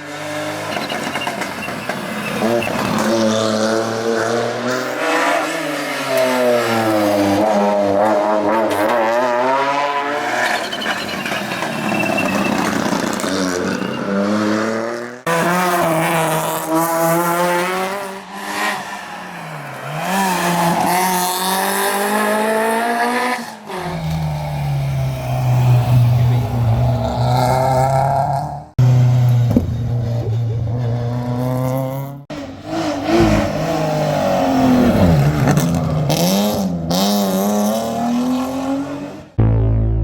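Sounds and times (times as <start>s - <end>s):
rally car engines revving: 0.0s - 39.5s.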